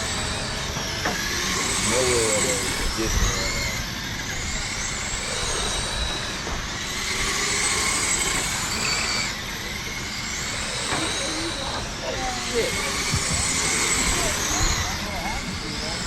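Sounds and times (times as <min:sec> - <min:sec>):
rc car motors whining: 0:00.0 - 0:16.0.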